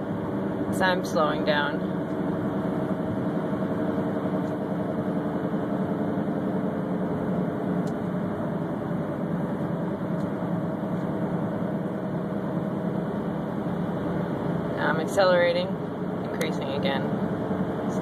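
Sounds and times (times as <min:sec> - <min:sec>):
car whirring hum: 0:00.0 - 0:18.0
road noise: 0:00.0 - 0:18.0.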